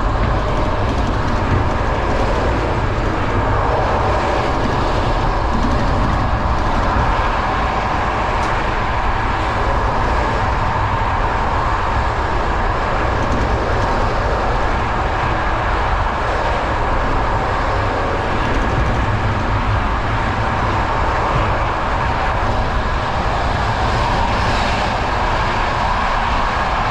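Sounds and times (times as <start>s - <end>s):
rushing air: 0.0s - 26.9s
train wheels on rails: 0.0s - 26.9s.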